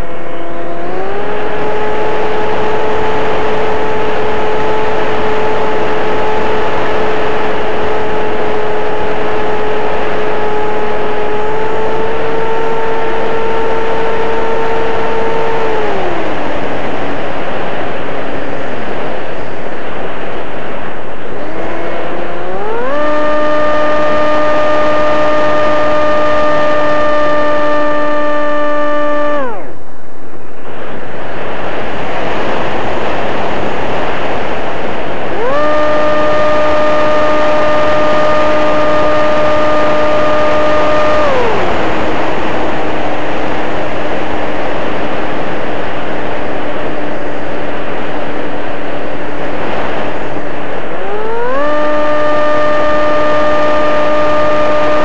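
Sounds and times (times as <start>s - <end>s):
electric motor propeller whine: 0.0s - 55.0s
wind rushing over microphone: 0.0s - 55.0s.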